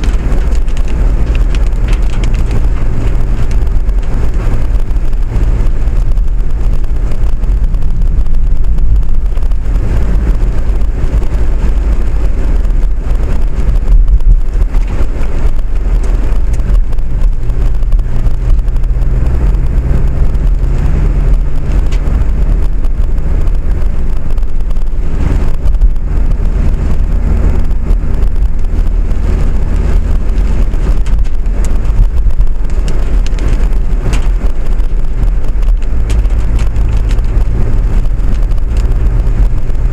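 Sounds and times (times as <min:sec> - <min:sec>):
tram rumbling: 0:00.0 - 0:39.9.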